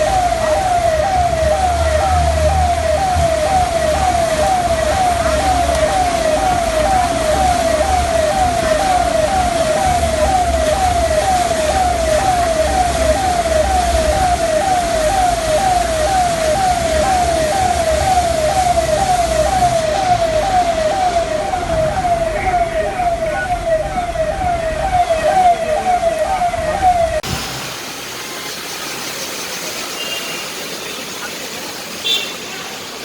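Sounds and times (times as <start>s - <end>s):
electronic siren wailing: 0.0s - 27.4s, 30.0s - 31.3s
steady background noise: 0.0s - 33.0s.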